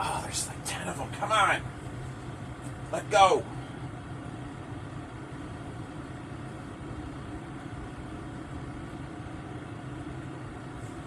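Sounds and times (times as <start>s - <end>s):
heater humming: 0.0s - 11.0s.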